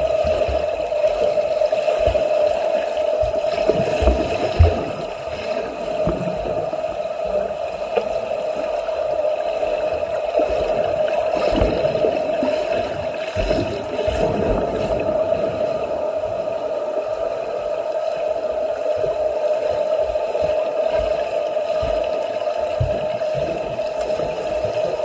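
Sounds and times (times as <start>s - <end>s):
steady hum: 0.0s - 25.0s
water splashing from swimmers: 0.0s - 25.0s.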